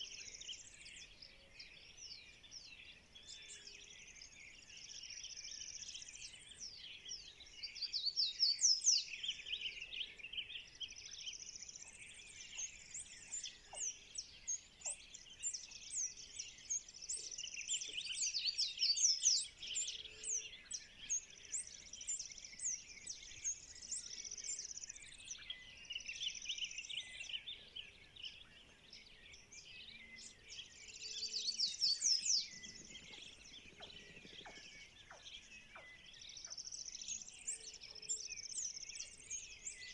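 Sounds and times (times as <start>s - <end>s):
birds chirping and trilling: 0.2s - 39.9s.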